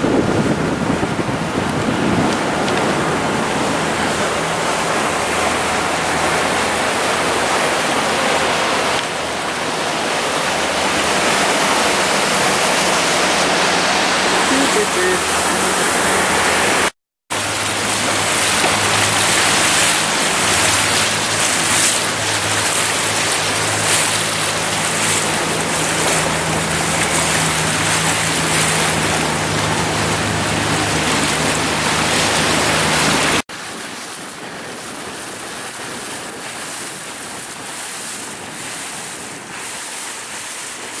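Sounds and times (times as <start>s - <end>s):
motorboat engine hum: 0.0s - 41.0s
rush of wind and water: 0.0s - 41.0s.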